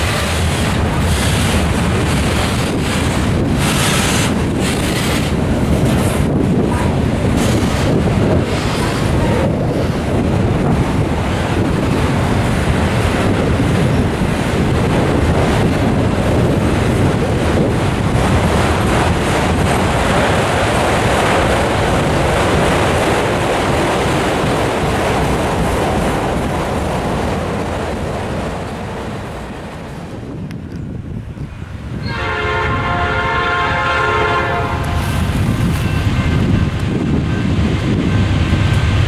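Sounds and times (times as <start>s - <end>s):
steel wheels on rails: 0.0s - 32.4s.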